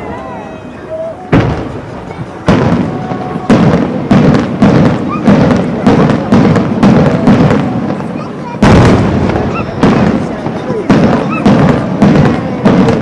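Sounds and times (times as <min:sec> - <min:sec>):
fireworks bursting with echo: 0:00.0 - 0:13.0.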